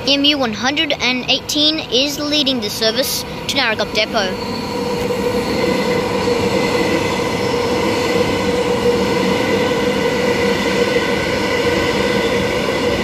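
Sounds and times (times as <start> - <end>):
high-pitched train whine: 0.0 - 13.0
train rolling past: 2.2 - 13.0.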